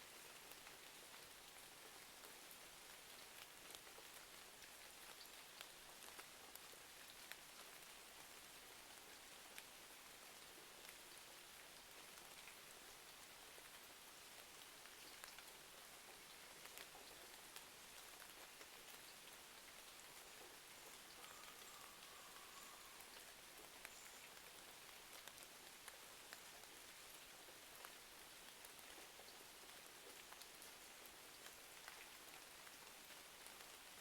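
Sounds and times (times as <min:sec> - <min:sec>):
rain hiss: 0:00.0 - 0:34.0.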